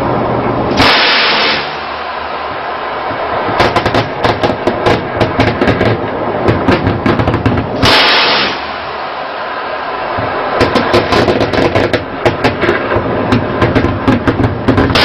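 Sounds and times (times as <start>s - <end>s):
loud rush of noise: 0.0s - 15.0s
rapid cannon gunshots: 0.8s - 9.4s, 10.2s - 15.0s.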